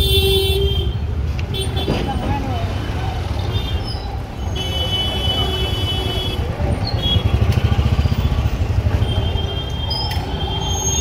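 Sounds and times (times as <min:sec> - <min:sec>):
busy street traffic: 0:00.0 - 0:11.0.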